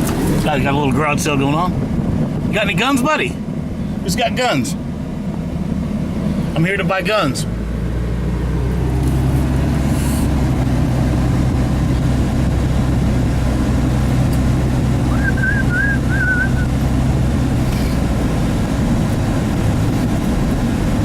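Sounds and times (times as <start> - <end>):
truck engine and tyres rumbling: 0.0 - 21.0.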